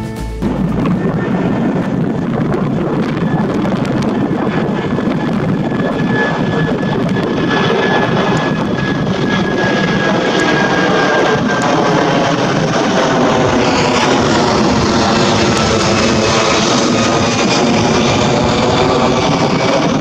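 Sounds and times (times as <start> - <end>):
jet engine rush: 0.0 - 20.0
faint engine whine: 0.4 - 20.0.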